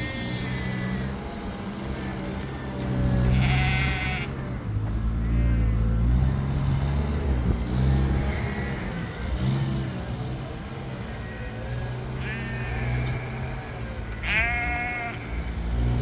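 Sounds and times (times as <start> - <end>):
sheep bleating: 0.0 - 6.3, 8.0 - 9.6, 10.7 - 16.0
low engine hum: 0.0 - 16.0.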